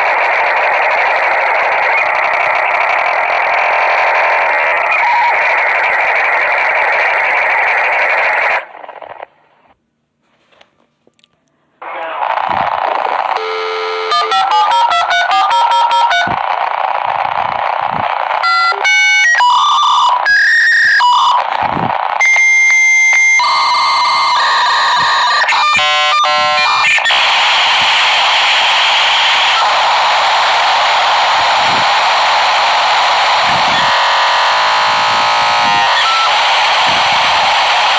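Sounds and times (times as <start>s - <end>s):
rapid modem beeps and tones: 0.0s - 8.6s, 12.3s - 16.7s, 17.3s - 37.9s
modem hiss: 0.0s - 10.8s, 11.8s - 37.9s.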